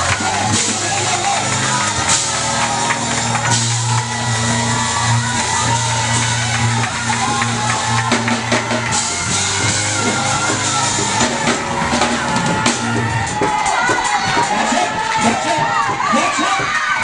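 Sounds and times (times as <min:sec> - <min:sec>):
drum kit hitting hard: 0:00.0 - 0:16.1
congregation shouting: 0:00.0 - 0:17.0
gospel band playing: 0:00.0 - 0:17.0.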